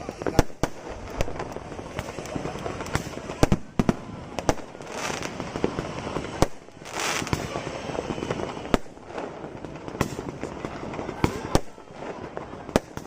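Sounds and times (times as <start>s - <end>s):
fireworks bangs: 0.0s - 13.0s
fireworks crackling hiss: 0.0s - 13.0s.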